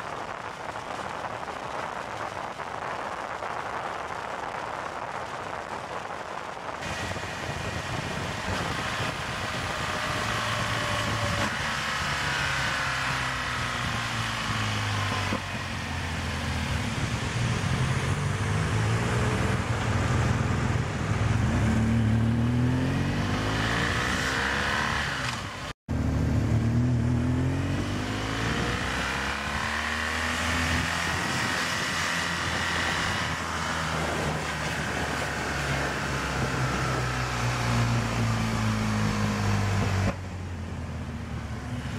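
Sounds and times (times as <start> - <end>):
wind rush: 0.0 - 25.7, 26.9 - 41.9
motorcycle engine revving: 0.0 - 41.9.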